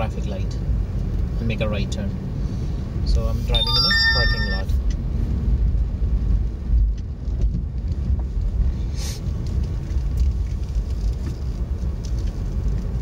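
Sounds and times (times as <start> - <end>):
engine and tyre rumble: 0.0 - 3.6, 4.6 - 13.0.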